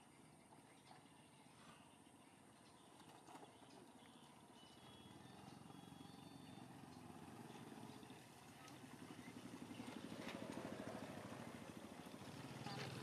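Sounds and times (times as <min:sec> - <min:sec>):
distant engine droning: 0:00.0 - 0:13.0.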